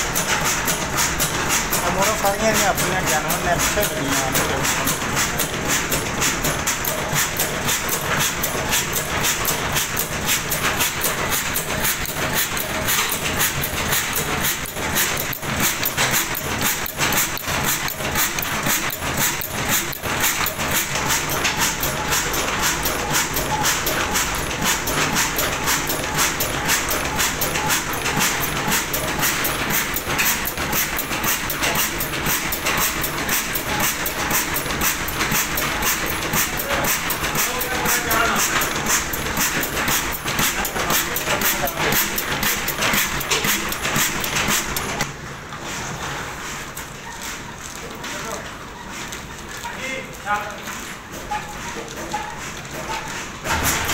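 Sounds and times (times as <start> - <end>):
stationary diesel engine clattering: 0.0 - 45.1.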